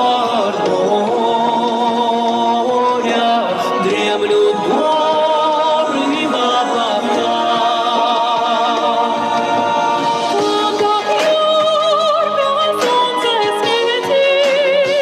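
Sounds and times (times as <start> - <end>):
person singing with accompaniment: 0.0 - 15.0.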